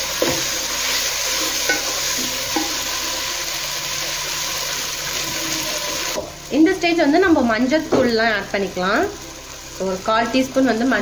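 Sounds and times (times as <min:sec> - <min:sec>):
masala sizzling in frying pan: 0:00.0 - 0:11.0.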